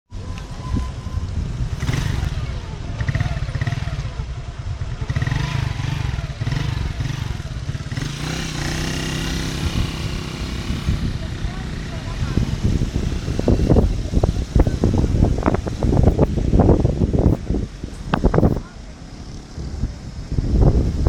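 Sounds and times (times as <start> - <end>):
vehicle engine rumbling: 0.1 - 21.0.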